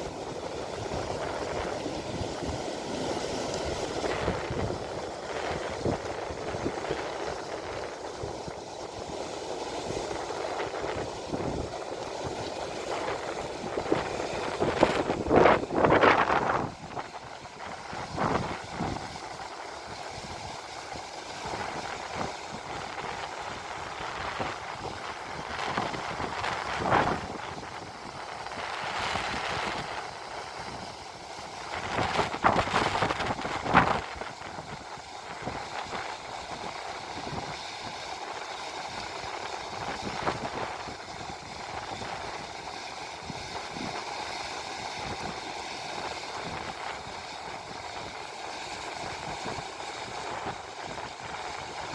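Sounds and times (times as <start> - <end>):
river water pouring over weir: 0.0 - 51.9.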